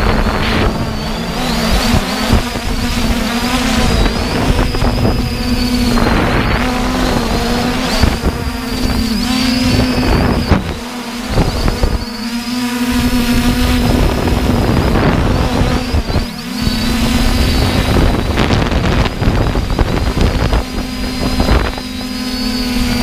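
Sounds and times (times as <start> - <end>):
drone motors humming: 0.0 - 23.0
wind buffeting microphone: 0.0 - 23.0.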